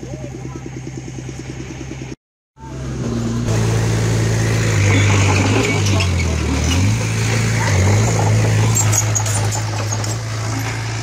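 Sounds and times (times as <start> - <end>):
diesel engine running: 0.0 - 11.0
louder diesel engine revving: 0.3 - 11.0.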